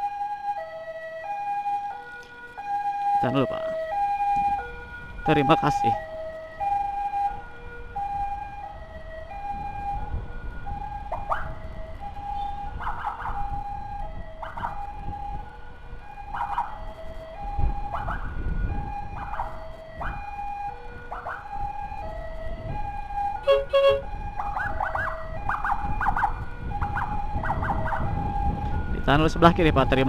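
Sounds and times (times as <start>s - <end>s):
ambulance siren: 0.0s - 30.0s
siren whoops: 0.0s - 30.0s
wind rumble: 0.0s - 30.0s.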